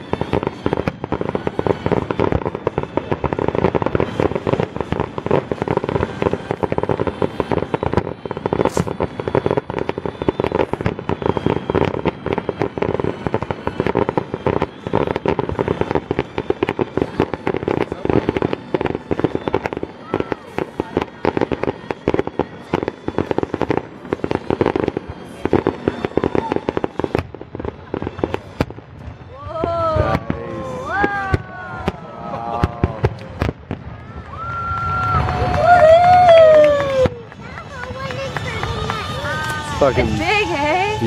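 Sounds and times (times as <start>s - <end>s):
fireworks bursting rapidly: 0.0s - 41.0s.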